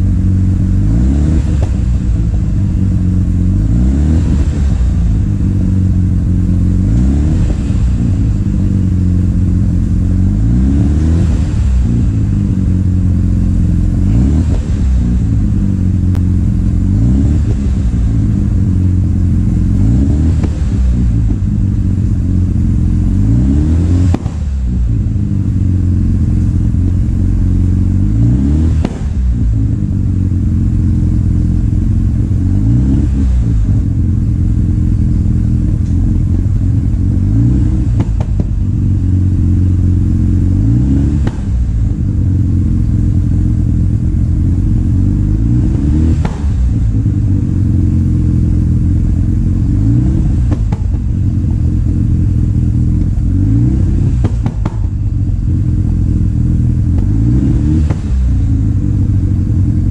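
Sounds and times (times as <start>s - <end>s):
rotary engine revving: 0.0s - 59.8s.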